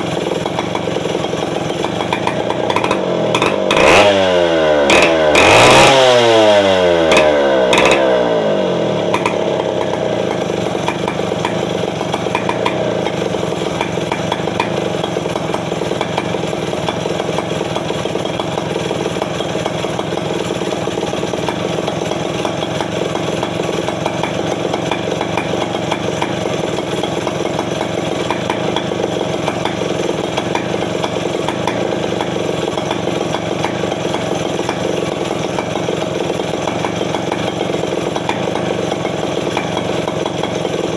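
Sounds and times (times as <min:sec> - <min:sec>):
chainsaw idling: 0:00.0 - 0:40.9.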